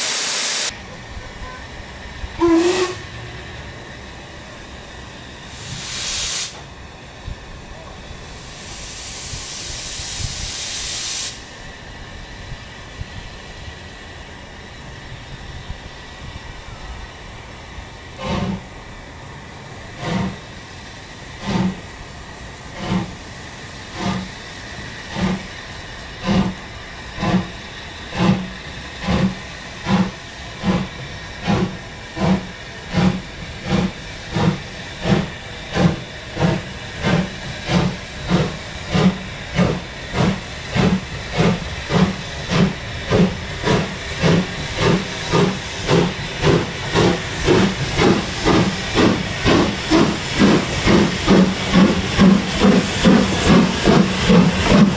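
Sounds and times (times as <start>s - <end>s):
steam hissing: 0.0s - 54.9s
steam locomotive exhaust beats: 0.0s - 54.9s.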